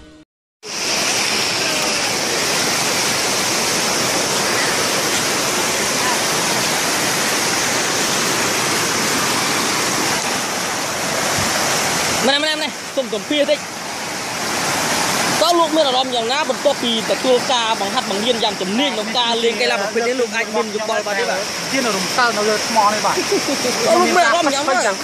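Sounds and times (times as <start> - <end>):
waterfall rushing: 0.6 - 25.0.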